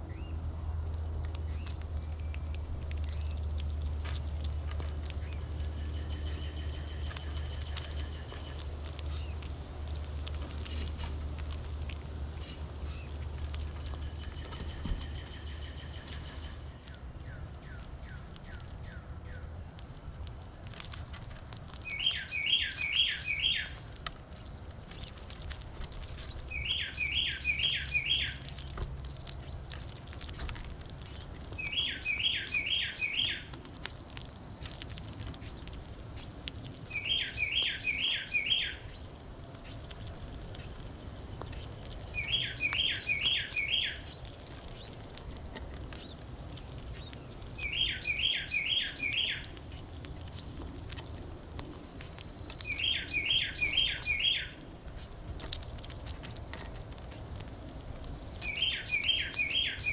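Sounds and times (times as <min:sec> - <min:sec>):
squirrel husking seeds: 0:00.0 - 0:59.9.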